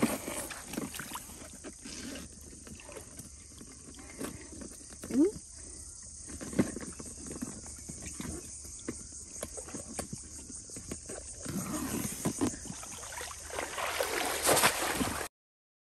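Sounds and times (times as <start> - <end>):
water sloshing from wading: 0.0 - 15.3.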